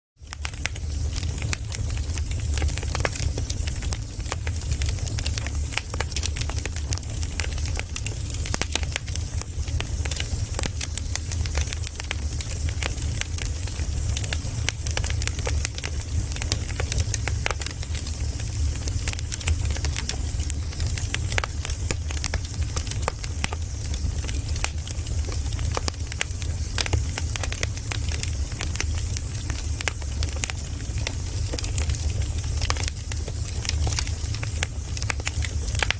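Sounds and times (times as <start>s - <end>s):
firewood crackling and popping: 0.2s - 35.9s.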